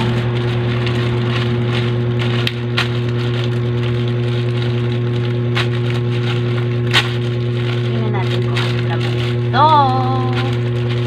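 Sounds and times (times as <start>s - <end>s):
parcel crackling being opened: 0.0s - 11.0s
steady low hum: 0.0s - 11.0s.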